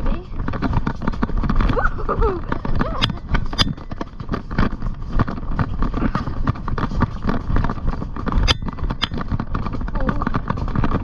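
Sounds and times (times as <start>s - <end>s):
pony hooves striking ground: 0.0s - 11.0s.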